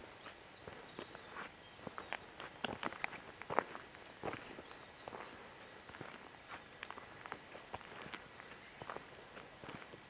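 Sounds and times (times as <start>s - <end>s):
footsteps on gravel: 0.2s - 10.0s.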